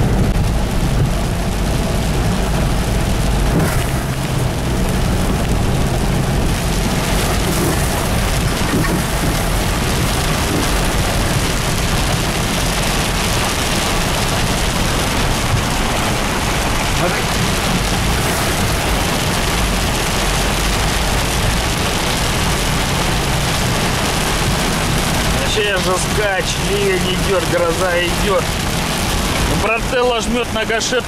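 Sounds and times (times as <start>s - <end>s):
car engine and tyres rumbling: 0.0s - 31.0s
heavy rain on car roof: 0.0s - 31.0s.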